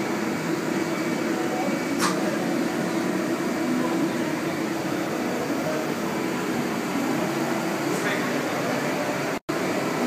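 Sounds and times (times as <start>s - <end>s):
machinery hum and hiss: 0.0s - 10.0s.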